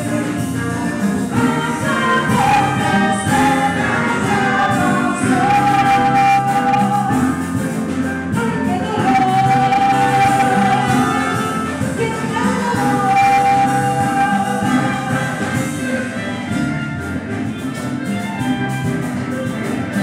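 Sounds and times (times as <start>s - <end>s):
woman singing lead: 0.0s - 17.0s
backing voices: 0.0s - 17.4s
live band playing: 0.0s - 20.0s.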